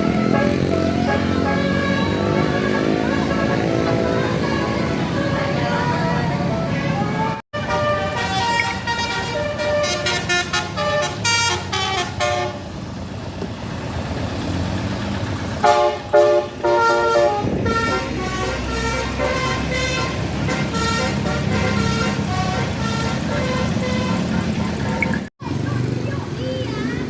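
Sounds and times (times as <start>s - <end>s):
bus horn playing tune: 0.0s - 12.8s, 15.6s - 25.2s
bus engine running: 0.0s - 27.0s.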